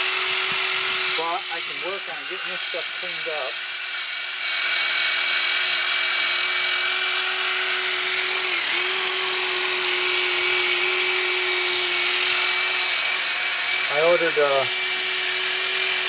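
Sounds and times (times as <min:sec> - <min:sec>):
drill spinning wire brush: 0:00.0 - 0:16.0.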